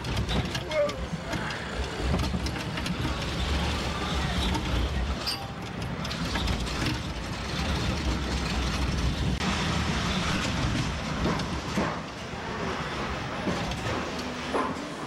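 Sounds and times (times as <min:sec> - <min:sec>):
ride car rumbling on track: 0:00.0 - 0:15.0.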